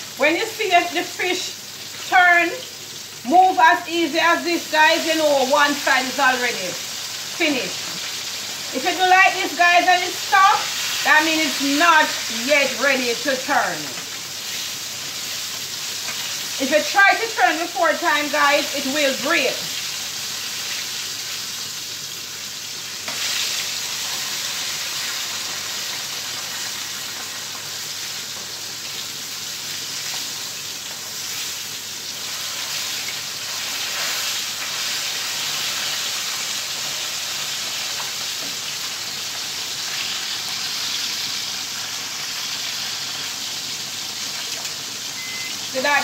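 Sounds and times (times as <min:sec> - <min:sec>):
fish sizzling in oil: 0:00.0 - 0:46.0.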